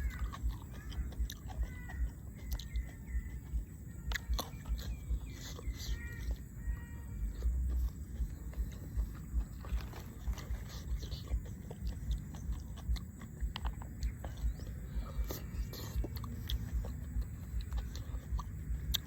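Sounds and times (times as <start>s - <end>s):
wet mouth clicks: 0.0s - 6.5s, 7.3s - 19.0s
person chewing food: 0.0s - 19.0s
sharp crunches: 0.0s - 19.0s.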